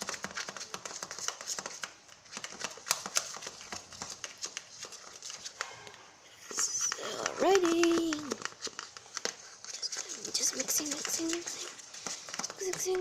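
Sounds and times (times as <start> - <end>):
fork stirring slime: 0.0 - 13.0.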